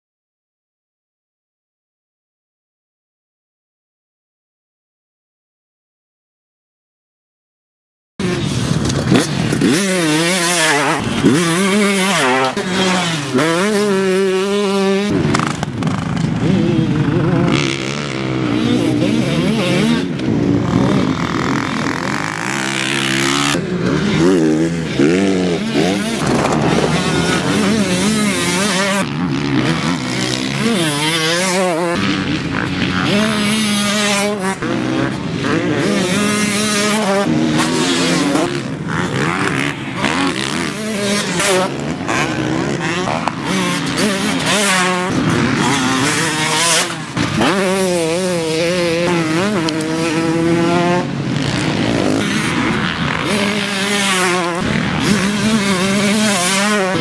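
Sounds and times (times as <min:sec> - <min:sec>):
dirt bike engine revving: 0:08.2 - 0:57.0.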